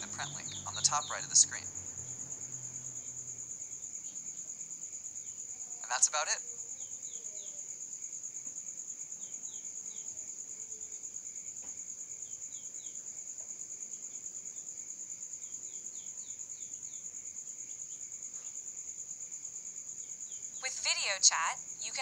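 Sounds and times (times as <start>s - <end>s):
high pulsing insect trill: 0.0s - 22.0s.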